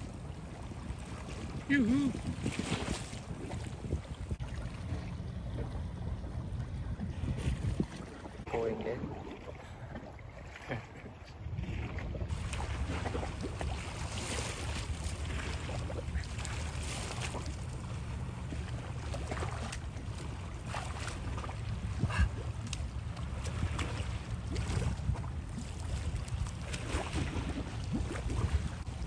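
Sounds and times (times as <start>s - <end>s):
paddles splashing in water: 0.0s - 29.0s
wind rumble on microphone: 0.0s - 29.0s.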